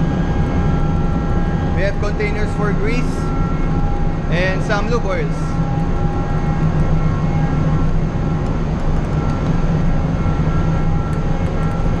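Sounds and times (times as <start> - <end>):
constant whining tones: 0.0 - 12.0
ship machinery deep hum: 0.0 - 12.0.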